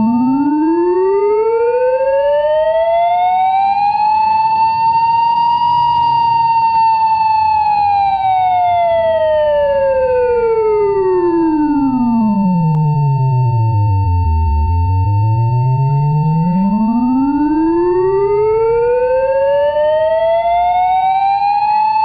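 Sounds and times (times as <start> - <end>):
siren winding up and down: 0.0 - 22.0
steady high alarm tone: 0.0 - 22.0.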